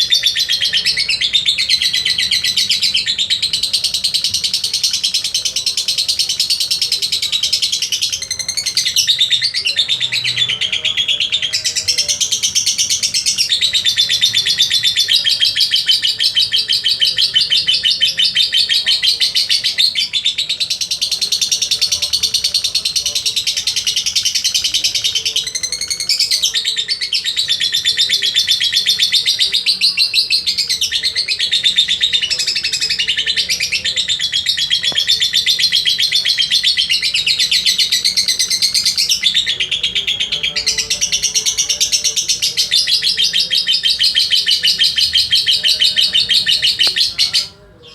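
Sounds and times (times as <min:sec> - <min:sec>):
lovebird chattering trill: 0:00.0 - 0:47.9.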